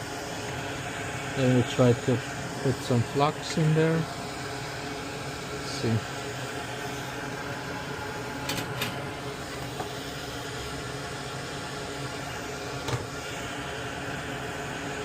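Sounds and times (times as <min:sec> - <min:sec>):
whirring hum of fan machine: 0:00.0 - 0:15.0.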